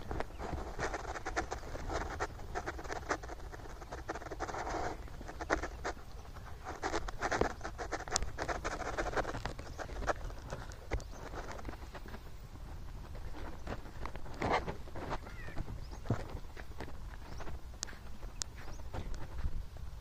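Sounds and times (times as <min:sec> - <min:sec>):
footsteps crunching on dry soil: 0:00.0 - 0:20.0
rustling near microphone: 0:00.0 - 0:20.0.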